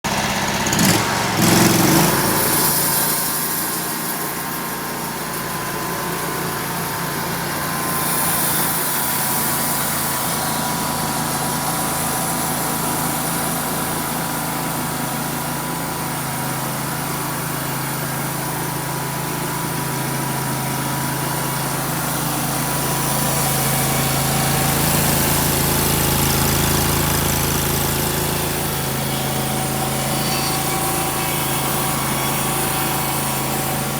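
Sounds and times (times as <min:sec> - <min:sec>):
sawmill engine running: 0:00.0 - 0:33.9.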